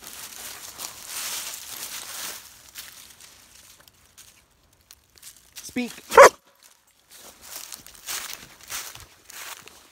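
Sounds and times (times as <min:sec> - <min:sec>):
rustling and crinkling: 0:00.0 - 0:09.9.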